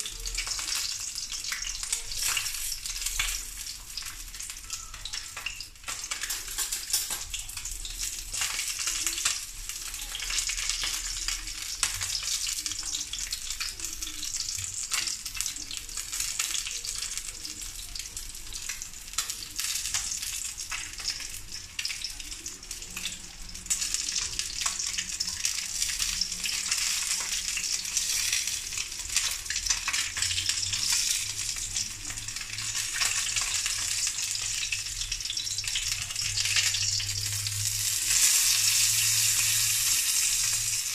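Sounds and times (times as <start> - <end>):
fish frying in oil: 0.0 - 40.9.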